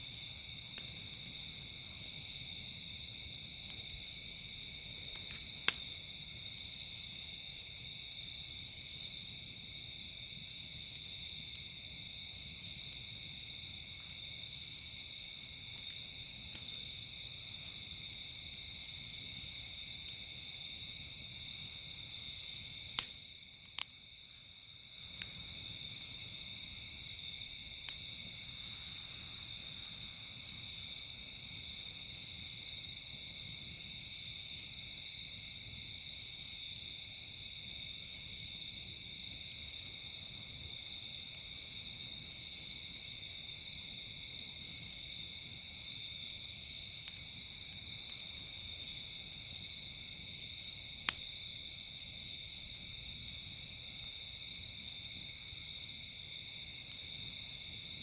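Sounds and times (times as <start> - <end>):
campfire crackling pops: 0.0 - 37.2, 38.0 - 54.4, 55.1 - 58.0
insect chorus: 0.0 - 58.0.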